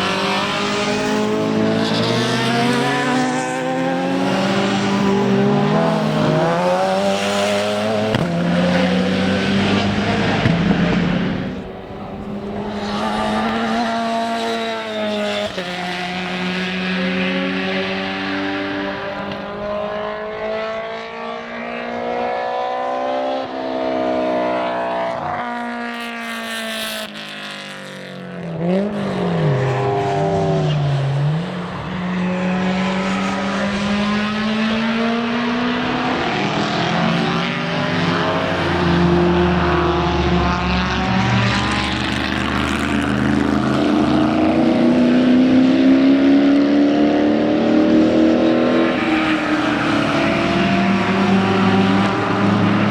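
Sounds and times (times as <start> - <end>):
racing car engines: 0.0 - 52.9.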